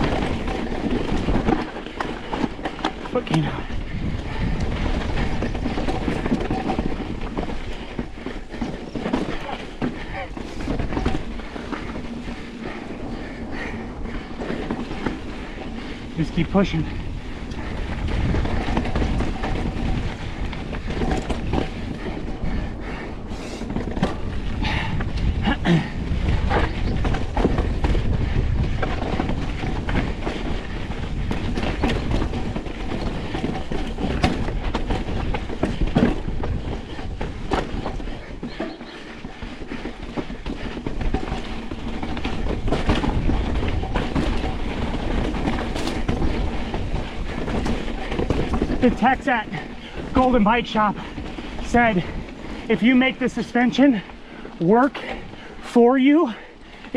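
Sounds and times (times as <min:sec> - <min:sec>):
bike knocks and rattles: 0:00.0 - 0:56.9
tyre and wind rumble: 0:00.0 - 0:56.9.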